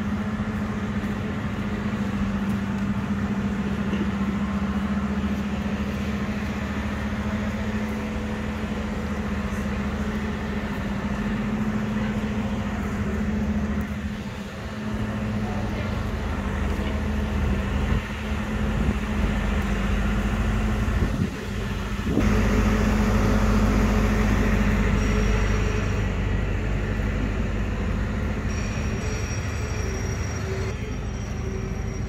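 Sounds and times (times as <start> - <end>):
carousel machinery drone: 0.0 - 32.0.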